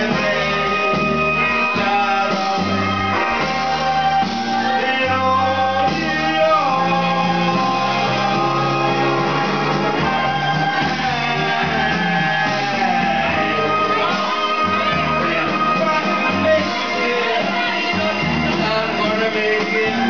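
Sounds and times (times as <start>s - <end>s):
man singing into microphone: 0.0s - 20.0s
rock backing track: 0.0s - 20.0s.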